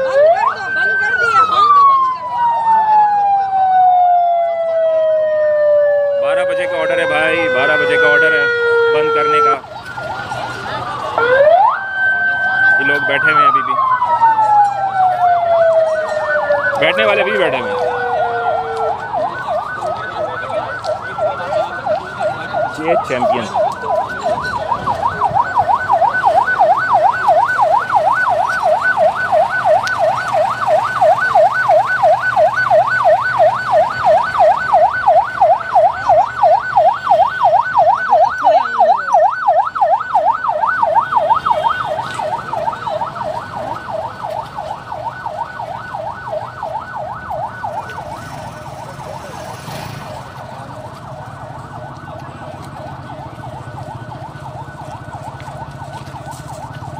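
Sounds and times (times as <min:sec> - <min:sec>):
siren yelping: 0:00.0 - 0:56.9.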